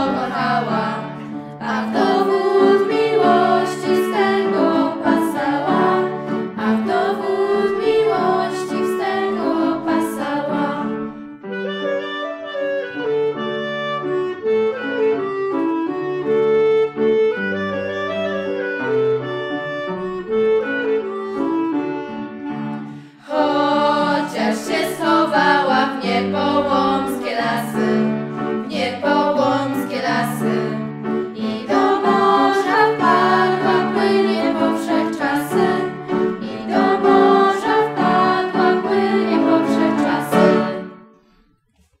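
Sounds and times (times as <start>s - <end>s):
instrumental folk dance music: 0.0s - 10.8s, 11.5s - 41.0s.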